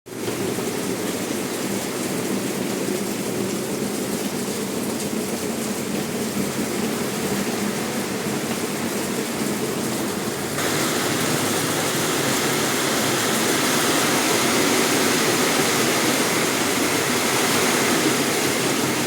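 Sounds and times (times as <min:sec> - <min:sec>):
heavy rain in wind: 0:00.1 - 0:19.0.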